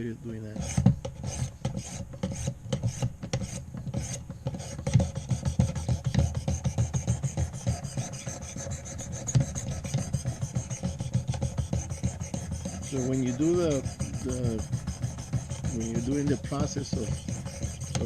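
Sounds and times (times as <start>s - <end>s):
sharpening stone rasping on blade: 0.6s - 18.0s.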